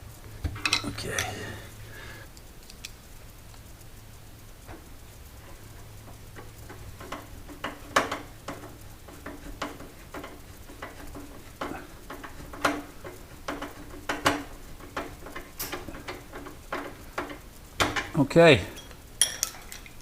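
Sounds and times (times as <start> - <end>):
metal parts and hand tools clicking: 0.5 - 1.6, 4.6 - 20.0.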